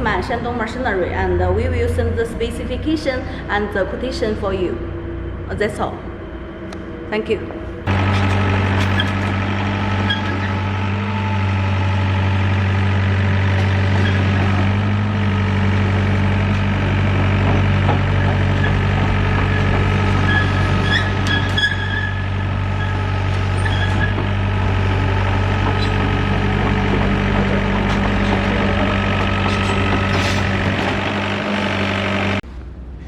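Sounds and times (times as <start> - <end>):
diesel engine running steadily: 0.0 - 33.0.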